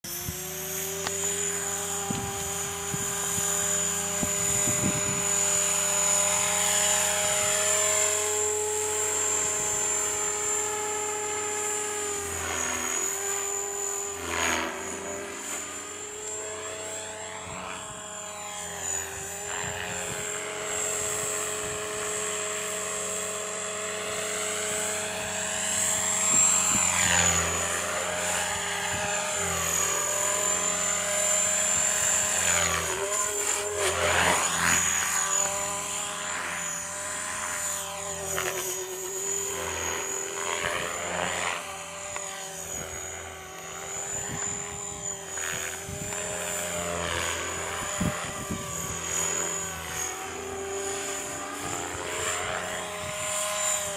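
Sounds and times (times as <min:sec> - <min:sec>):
model helicopter whine: 0:00.0 - 0:53.9.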